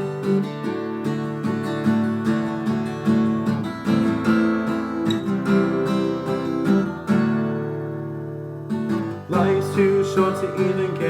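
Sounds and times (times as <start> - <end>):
guitar strumming chords: 0.0 - 11.0.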